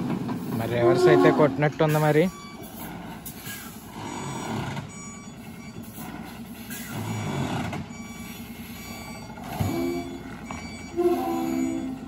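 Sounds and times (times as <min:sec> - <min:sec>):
truck diesel engine revving: 0:00.0 - 0:12.0
reverse alarm beeping: 0:00.7 - 0:12.0.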